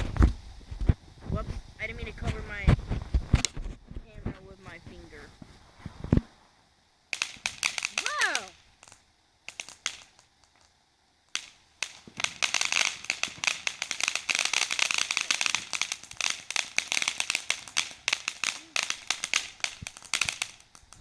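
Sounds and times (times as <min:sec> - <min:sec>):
firework crackles and pops: 0:00.0 - 0:21.0.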